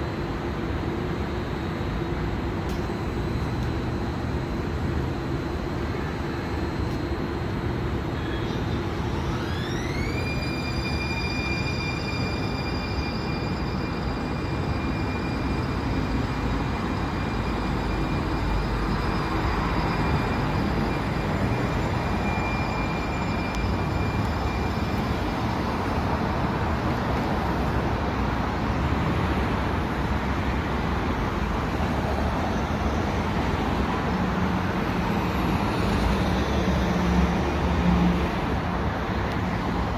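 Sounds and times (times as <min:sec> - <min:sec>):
light-rail train whine: 0:00.0 - 0:39.9
street traffic hiss: 0:00.0 - 0:39.9.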